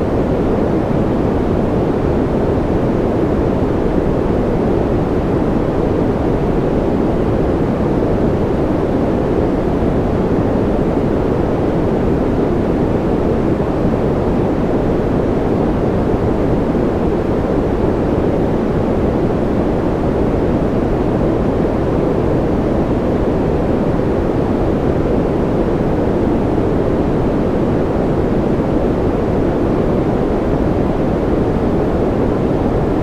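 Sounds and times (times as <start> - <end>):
steady white noise rush: 0.0 - 33.0.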